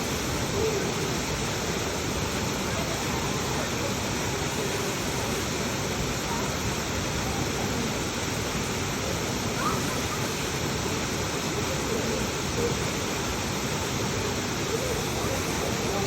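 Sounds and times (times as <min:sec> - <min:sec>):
waterfall roar: 0:00.0 - 0:16.0.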